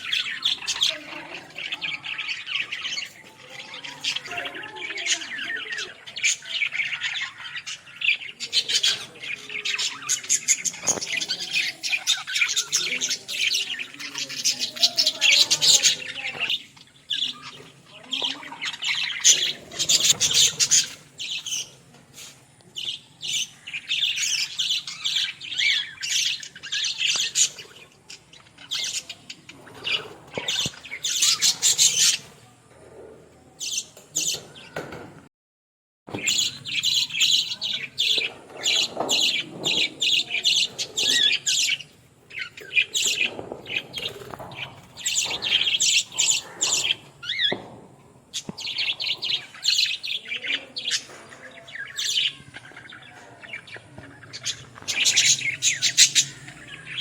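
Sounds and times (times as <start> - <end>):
budgerigars chirping and squawking: 0.0 - 35.0, 36.1 - 57.0.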